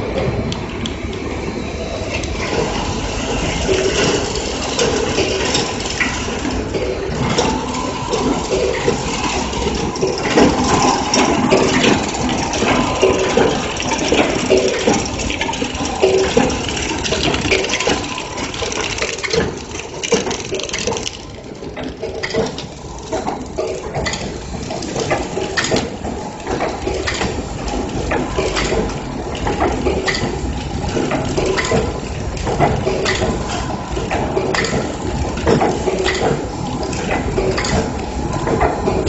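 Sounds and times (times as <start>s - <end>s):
wrapping machine running: 0.0s - 39.0s
machine clicks and knocks: 2.1s - 39.0s.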